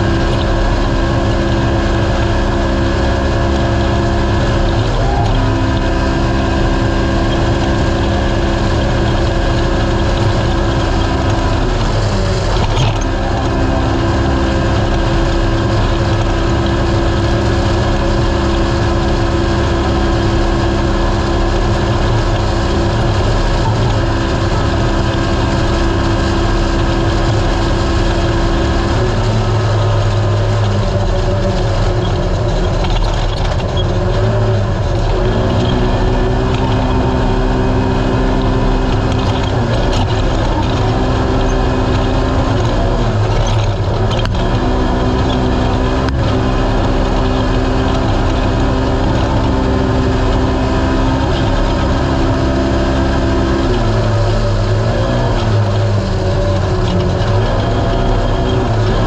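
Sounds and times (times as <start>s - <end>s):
vehicle engine running hard: 0.0s - 59.0s.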